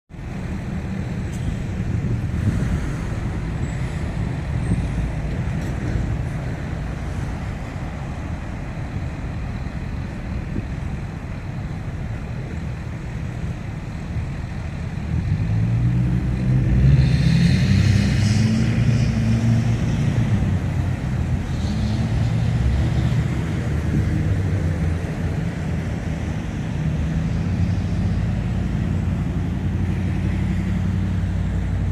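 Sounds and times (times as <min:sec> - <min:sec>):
heavy vehicle engine: 0:00.1 - 0:31.9
road traffic rumble: 0:00.1 - 0:31.9.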